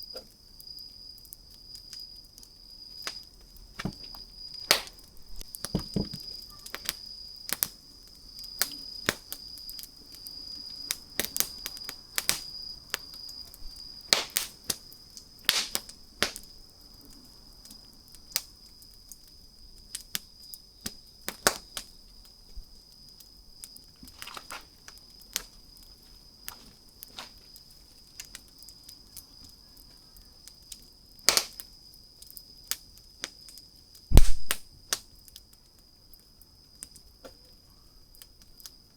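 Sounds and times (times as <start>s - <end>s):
campfire crackling and popping: 0.4s - 29.6s, 30.4s - 37.0s.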